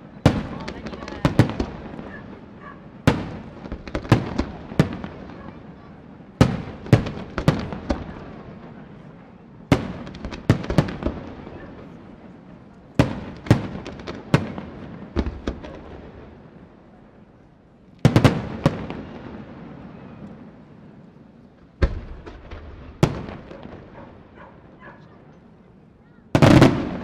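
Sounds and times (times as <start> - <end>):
fireworks bangs echoing: 0.0 - 17.3, 18.0 - 27.0.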